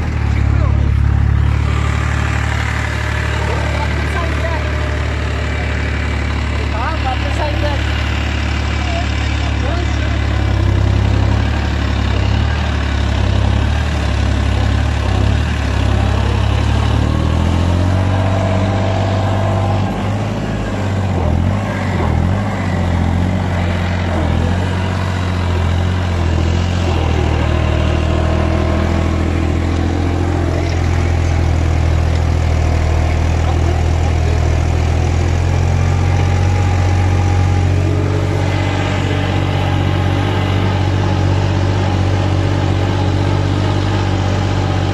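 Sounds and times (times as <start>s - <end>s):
tractor diesel engine: 0.0s - 44.9s.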